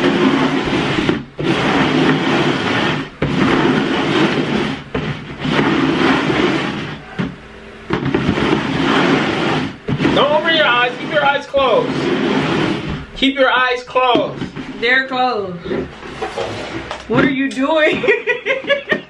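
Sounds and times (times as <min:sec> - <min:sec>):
plastic bowls scraping on table: 0:00.0 - 0:19.0.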